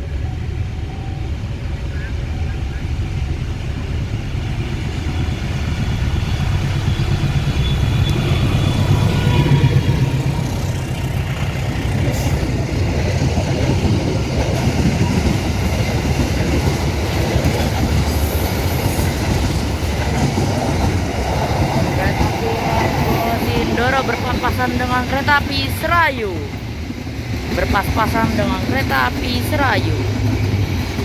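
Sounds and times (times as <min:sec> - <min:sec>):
carriages rolling on rails: 0:00.0 - 0:31.0
diesel train engine rumble: 0:00.0 - 0:31.0.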